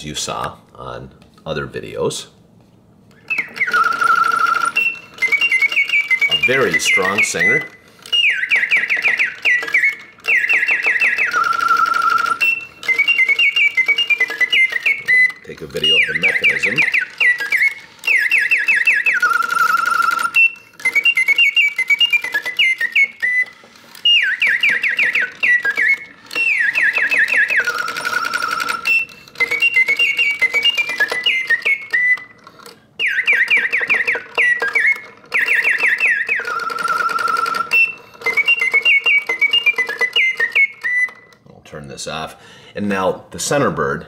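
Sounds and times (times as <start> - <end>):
faint mechanical whirr: 0.0 - 44.0
mechanical birdsong trills: 3.1 - 41.4.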